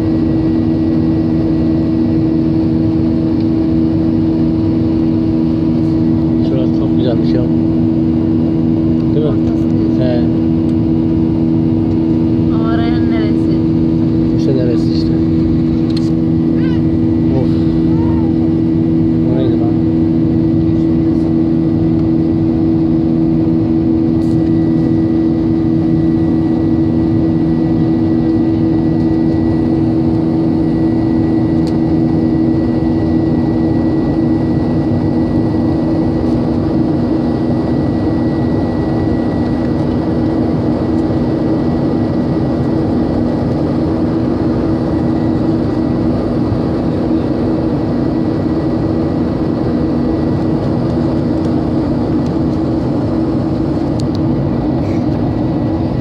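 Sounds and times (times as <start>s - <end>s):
jet engines droning: 0.0s - 56.0s
low hum: 0.0s - 56.0s.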